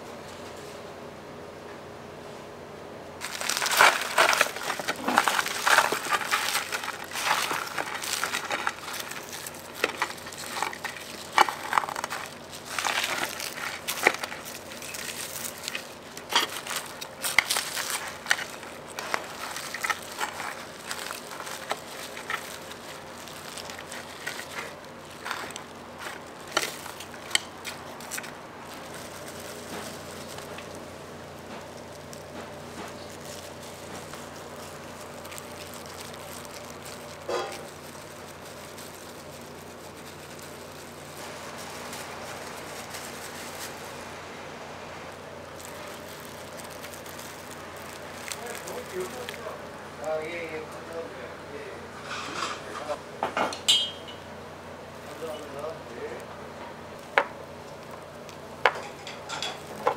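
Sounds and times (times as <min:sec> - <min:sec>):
crispy crust crunching and crackling: 0:03.2 - 0:59.9.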